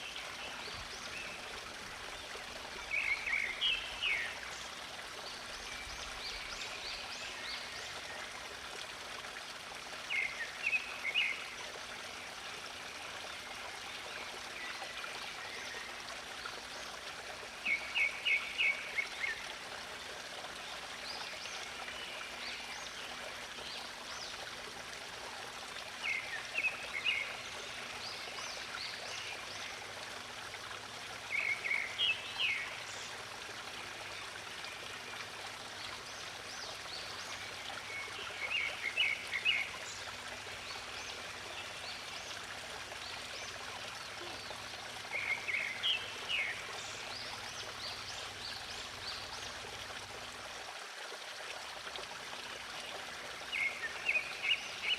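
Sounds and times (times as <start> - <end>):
stream water flowing: 0.0 - 54.9.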